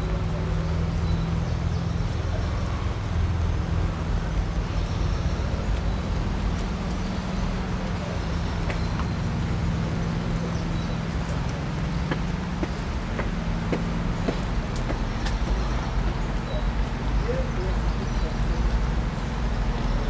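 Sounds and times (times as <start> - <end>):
traffic engines rumbling: 0.0 - 20.0.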